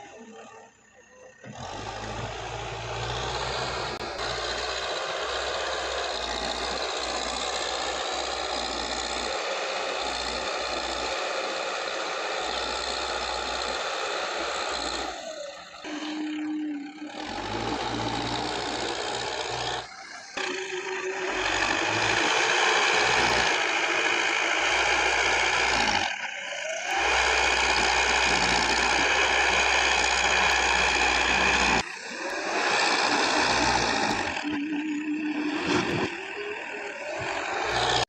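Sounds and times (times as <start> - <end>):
heavy machinery diesel engine: 0.0 - 38.0.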